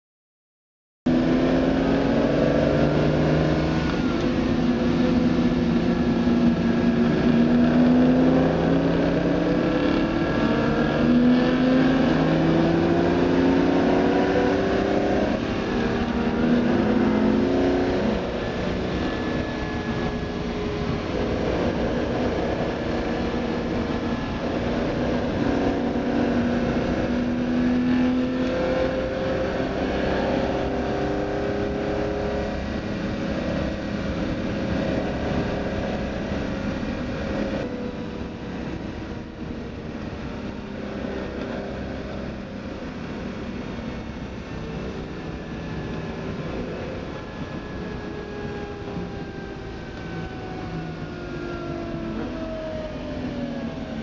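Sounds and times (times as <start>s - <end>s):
car engine revving through gears: 1.1s - 54.0s
road noise: 1.1s - 54.0s
wind noise: 2.0s - 54.0s.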